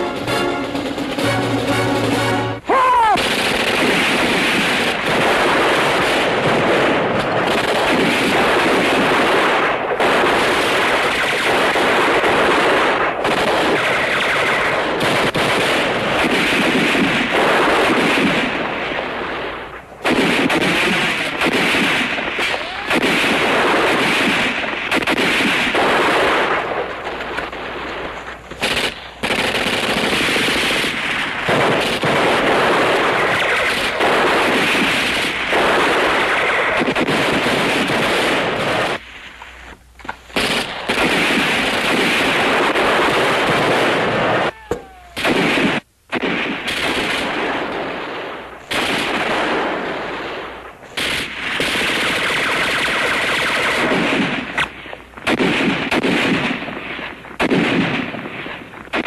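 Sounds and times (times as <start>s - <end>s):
machine-gun fire: 0.0s - 39.0s, 40.3s - 59.0s
gunshots: 0.0s - 39.4s, 40.0s - 59.0s.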